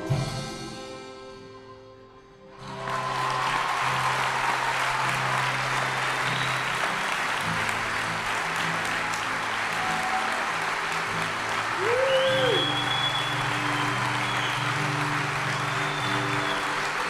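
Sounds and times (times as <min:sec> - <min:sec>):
congregation applauding: 0:02.6 - 0:17.0.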